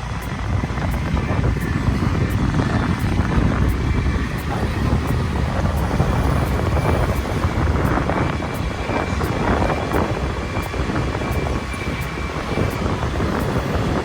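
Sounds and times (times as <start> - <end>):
motorbike engine rumble: 0.0 - 14.0
rushing wind noise: 0.0 - 14.0.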